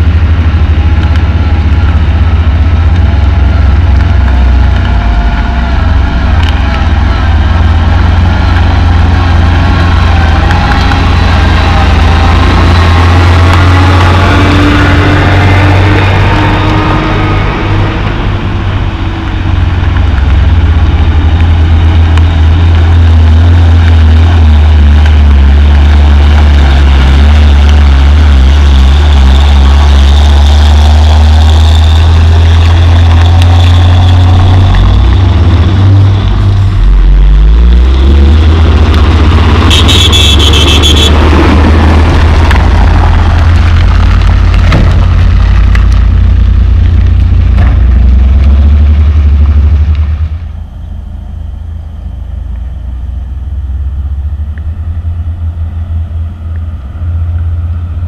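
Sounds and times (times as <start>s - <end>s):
diesel truck engine climbing: 0.0s - 58.0s.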